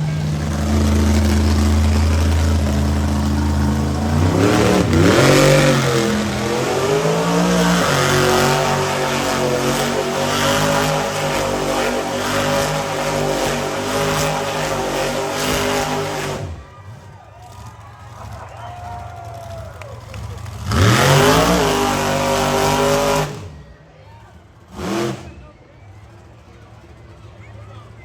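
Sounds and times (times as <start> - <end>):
truck engine revving: 0.0 - 26.9.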